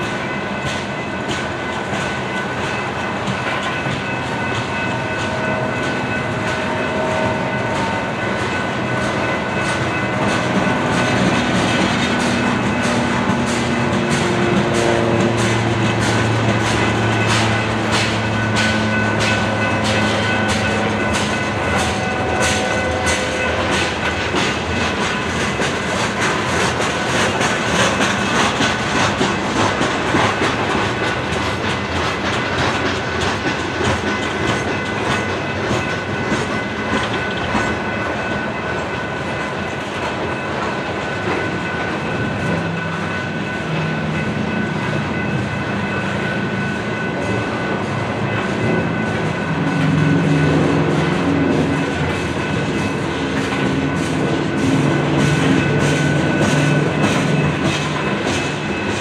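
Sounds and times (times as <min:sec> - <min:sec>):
freight train wheels clacking: 0:00.0 - 0:59.0.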